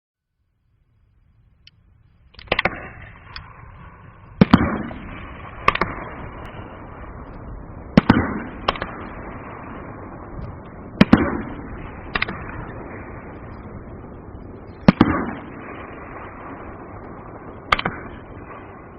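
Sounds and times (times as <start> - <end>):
fireworks rumble and crackle: 0.5 - 18.9
fireworks bursting with sharp bangs: 2.2 - 18.9.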